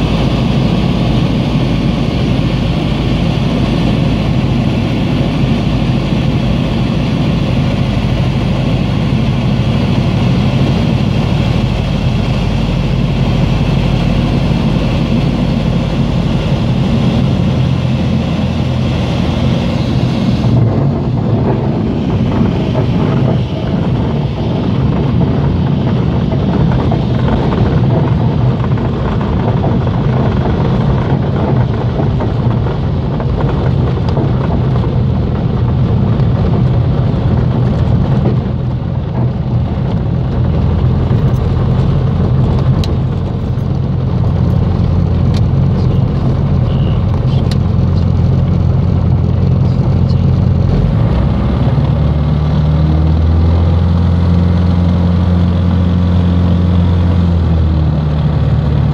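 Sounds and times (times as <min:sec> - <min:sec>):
propeller engine running: 0:00.0 - 0:58.9.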